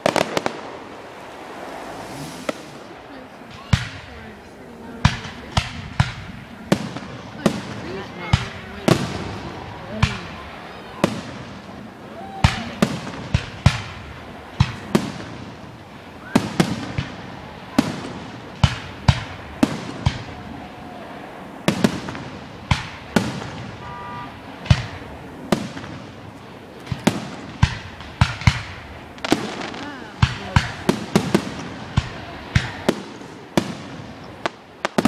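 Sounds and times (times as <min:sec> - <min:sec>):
fireworks bursting with sharp bangs: 0:00.0 - 0:35.0.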